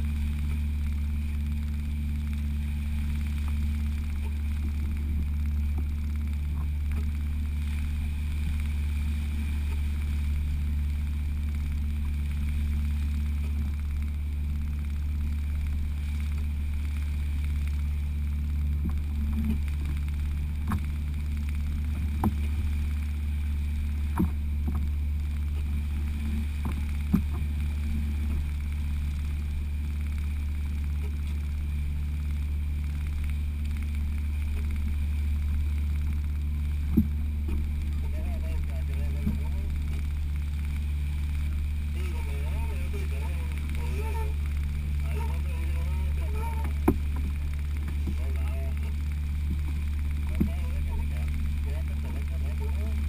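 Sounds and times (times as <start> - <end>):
outboard motor droning: 0.0 - 53.0
water rushing past hull: 0.0 - 53.0.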